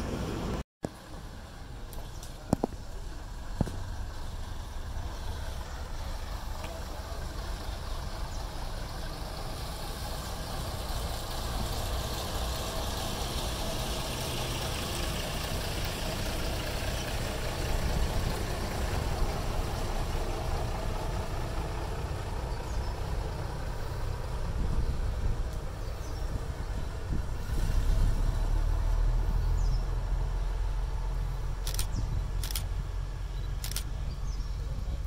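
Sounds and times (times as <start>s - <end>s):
diesel railcar engine drone: 0.0s - 35.0s.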